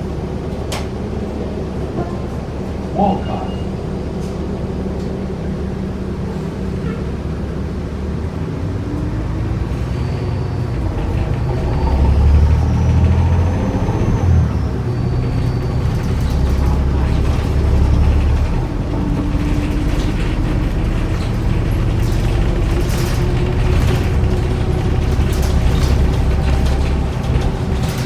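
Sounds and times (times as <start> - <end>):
bus diesel engine accelerating: 0.0 - 28.0.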